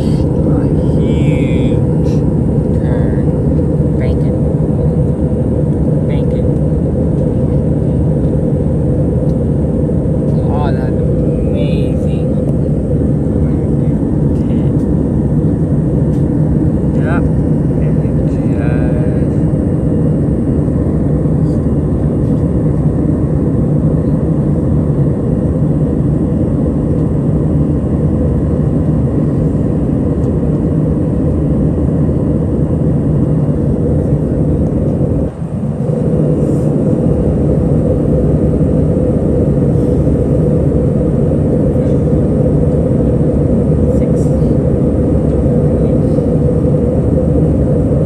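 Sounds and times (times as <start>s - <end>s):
jet cabin drone: 0.0s - 48.0s.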